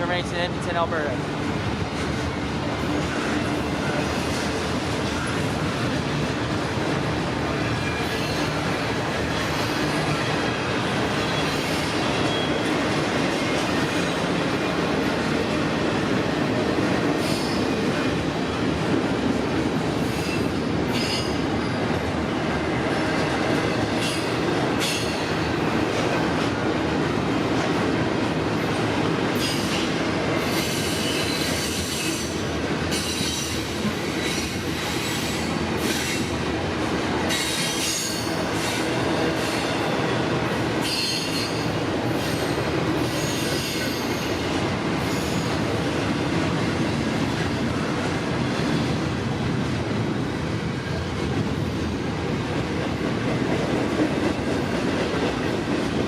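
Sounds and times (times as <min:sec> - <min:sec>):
train wheels rolling on rail: 0:00.0 - 0:56.0.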